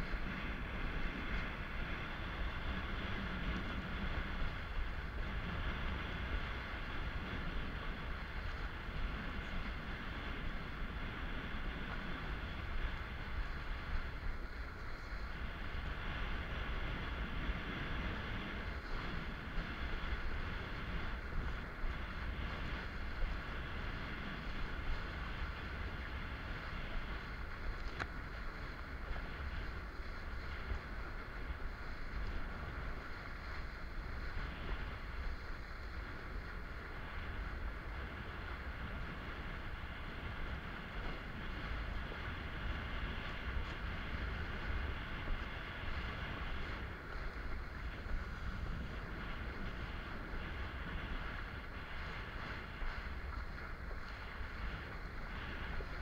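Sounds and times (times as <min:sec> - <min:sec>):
water rushing under kiteboard: 0:00.0 - 0:56.0
wind rumbling on microphone: 0:00.0 - 0:56.0.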